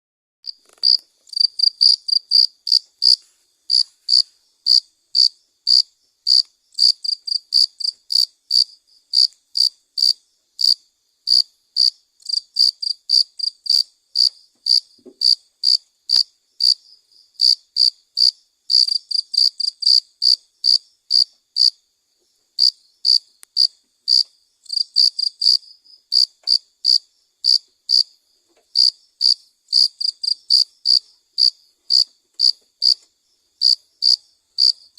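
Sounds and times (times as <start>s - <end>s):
cricket chirping: 0.6s - 34.9s.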